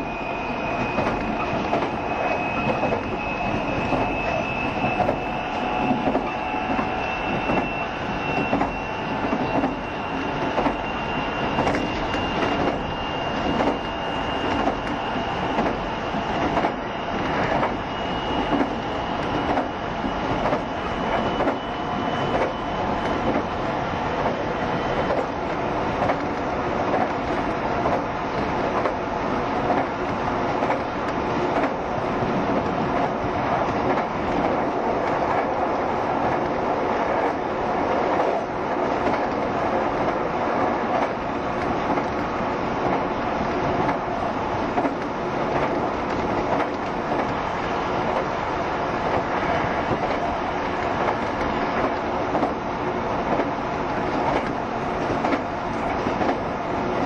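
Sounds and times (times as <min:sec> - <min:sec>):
rail joint clicks: 0:00.0 - 0:57.0
train wheels on rails: 0:00.0 - 0:57.0.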